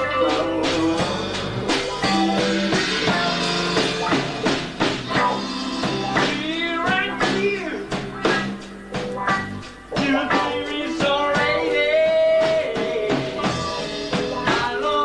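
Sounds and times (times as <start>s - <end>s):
bass: 0.0s - 15.0s
drums: 0.0s - 15.0s
electric guitars: 0.0s - 15.0s.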